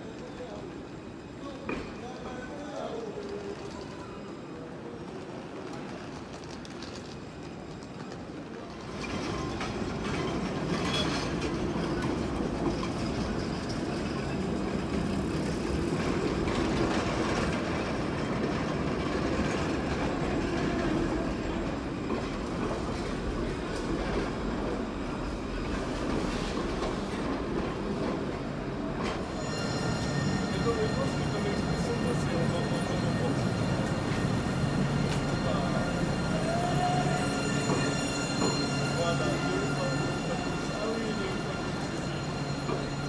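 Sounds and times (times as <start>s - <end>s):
tram wheels rumbling on rails: 4.8s - 43.0s.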